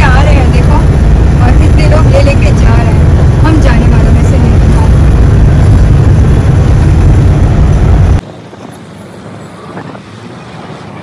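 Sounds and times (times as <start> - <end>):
truck engine deep rumble: 0.0 - 11.0.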